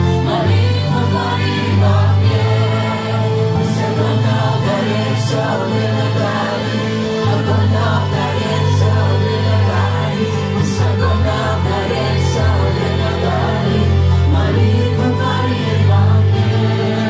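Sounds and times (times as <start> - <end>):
group singing worship song: 0.0 - 17.0.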